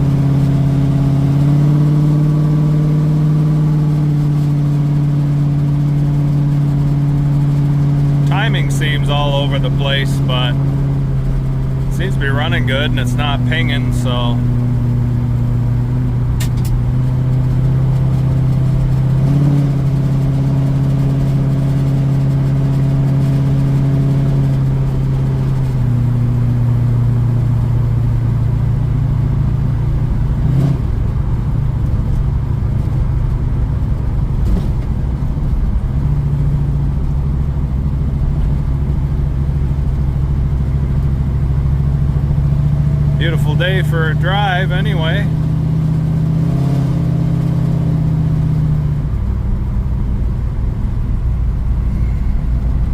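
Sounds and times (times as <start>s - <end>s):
car engine running loud: 0.0s - 52.9s.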